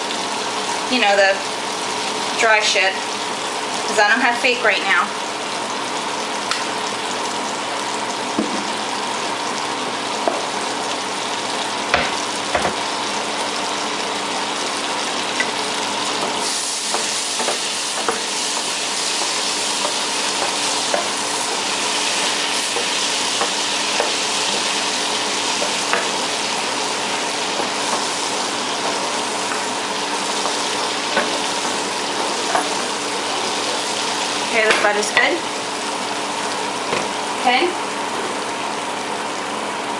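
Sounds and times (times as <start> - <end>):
butter sizzling in a frying pan: 0.0 - 39.1.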